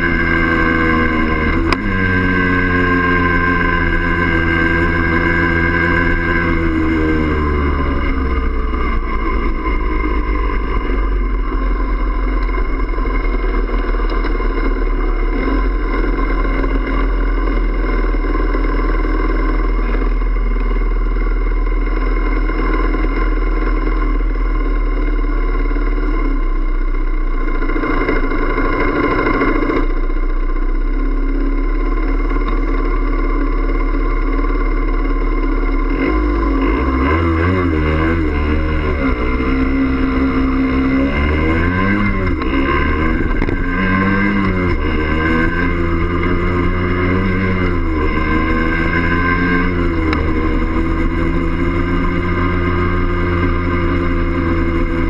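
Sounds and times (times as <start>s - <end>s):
moped engine idling: 0.0s - 37.0s, 37.6s - 55.0s
second moped engine revving: 0.0s - 55.0s.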